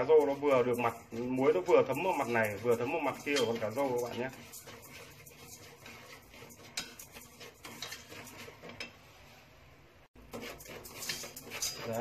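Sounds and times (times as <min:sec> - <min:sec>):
salt grains rasping: 0:00.0 - 0:09.5, 0:10.2 - 0:12.0.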